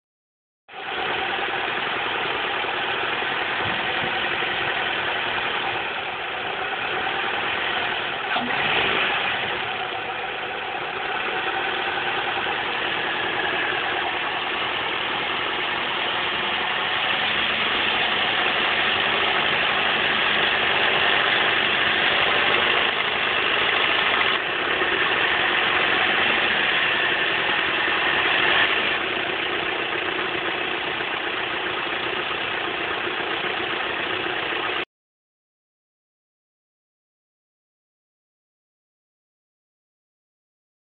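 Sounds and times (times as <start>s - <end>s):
car engine idling: 0.7s - 34.8s.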